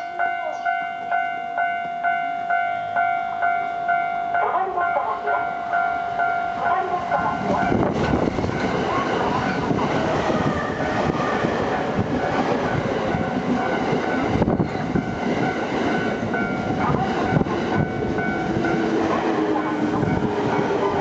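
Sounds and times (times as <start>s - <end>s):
train rolling noise: 0.0s - 21.0s.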